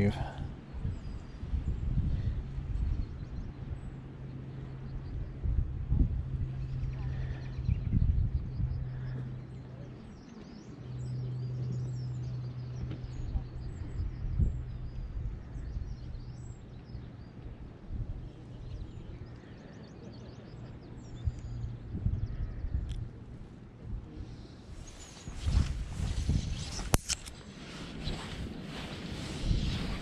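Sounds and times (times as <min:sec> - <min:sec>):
small birds chirping: 0:00.0 - 0:27.3
steady low hum: 0:00.0 - 0:30.0.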